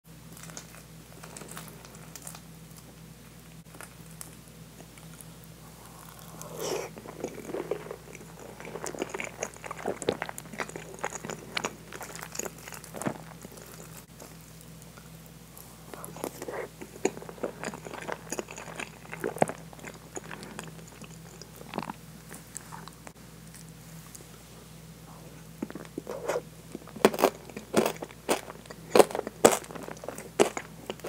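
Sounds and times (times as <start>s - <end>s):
wet chewing and mouth sounds: 3.7s - 24.3s, 25.2s - 31.0s.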